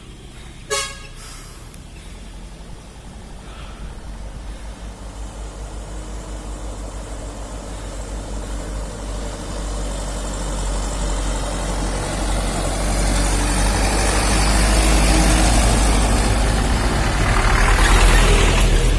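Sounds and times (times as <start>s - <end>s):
diesel truck engine running: 0.0s - 18.9s.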